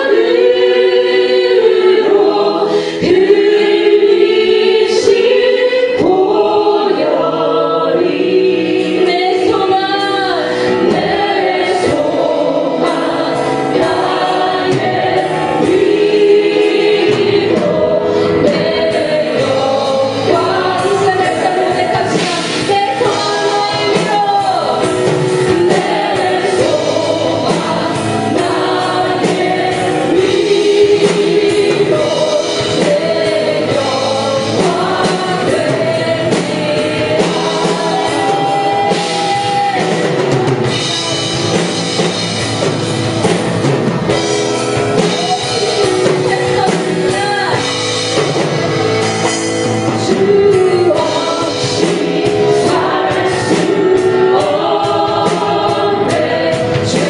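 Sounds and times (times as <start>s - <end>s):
many voices singing together: 0.0s - 57.0s
praise band playing: 0.0s - 57.0s.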